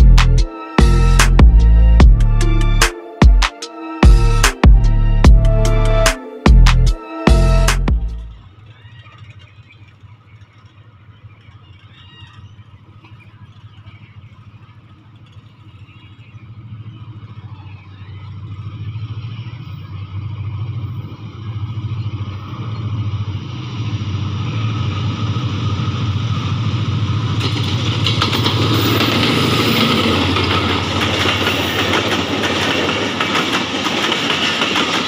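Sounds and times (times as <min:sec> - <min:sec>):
diesel locomotive engine rumble: 0:00.0 - 0:35.0.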